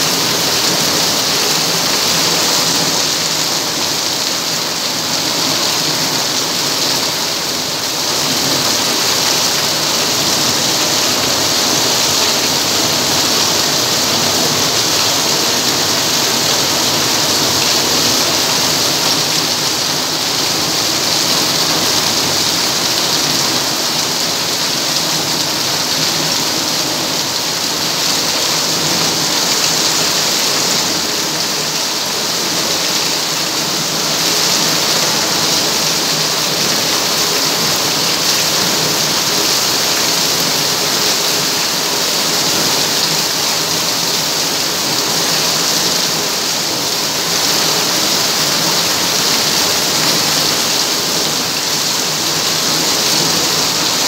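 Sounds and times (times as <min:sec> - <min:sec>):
heavy rain on concrete: 0:00.0 - 0:54.0.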